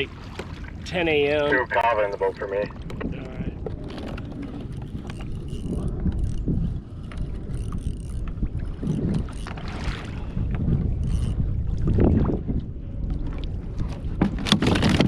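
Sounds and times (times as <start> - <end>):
water sloshing against kayak hull: 0.0 - 15.0
wind buffeting microphone: 0.0 - 15.0.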